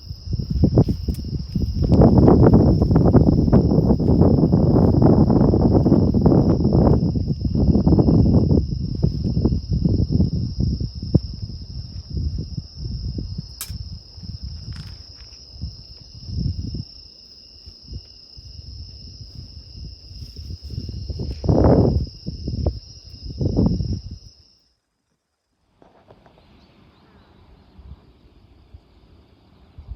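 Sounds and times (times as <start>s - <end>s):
wind buffeting microphone: 0.0s - 24.4s
insects trilling: 0.0s - 29.9s.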